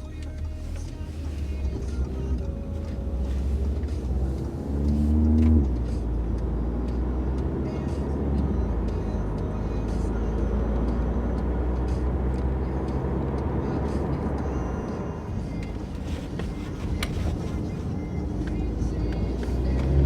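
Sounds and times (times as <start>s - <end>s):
car engine revving: 0.0s - 20.0s
car exhaust droning: 0.0s - 20.0s.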